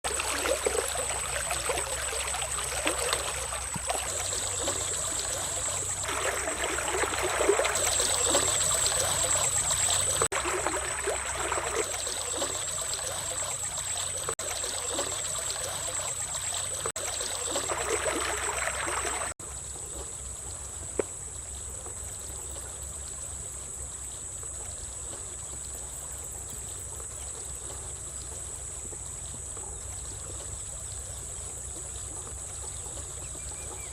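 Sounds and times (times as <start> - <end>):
stream water trickling: 0.0 - 33.9.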